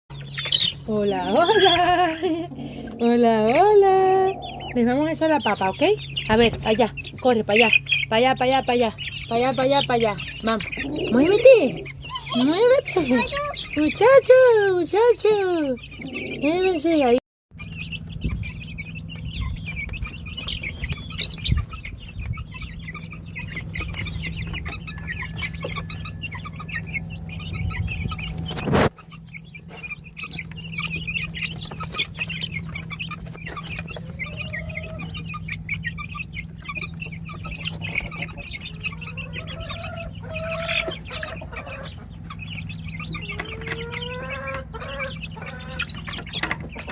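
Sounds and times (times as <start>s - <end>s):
chicks peeping: 0.1s - 46.9s
steady low hum: 0.1s - 46.9s.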